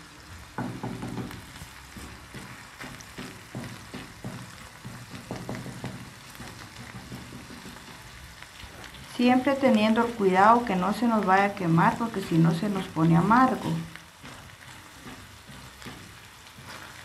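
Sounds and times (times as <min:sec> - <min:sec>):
onion and garlic sizzling in oil: 0:00.0 - 0:17.0
wooden spatula scraping a pan: 0:00.8 - 0:10.6, 0:11.8 - 0:17.0.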